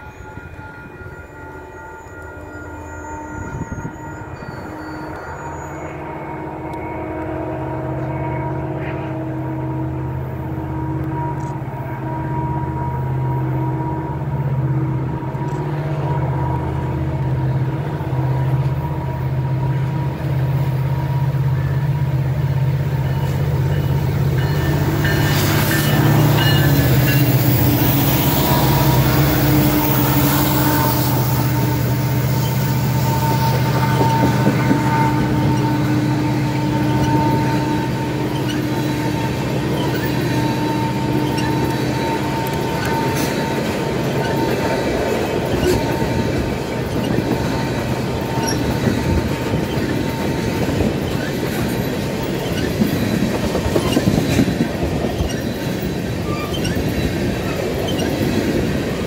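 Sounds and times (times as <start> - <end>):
diesel locomotive engine drone: 0.0 - 59.0
wheel and rail rush: 0.0 - 59.0.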